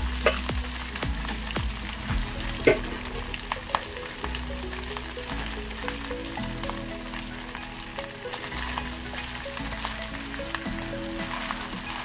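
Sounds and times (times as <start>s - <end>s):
instrumental background music: 0.0s - 12.0s
rice sizzling in a hot pan: 0.0s - 12.0s.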